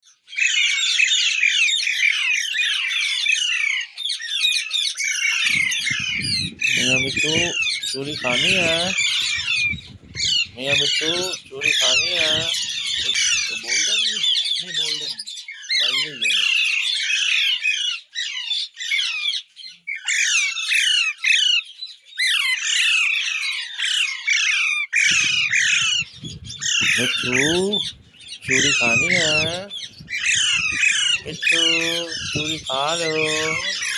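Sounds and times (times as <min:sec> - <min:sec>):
parrots chattering: 0:00.3 - 0:33.9.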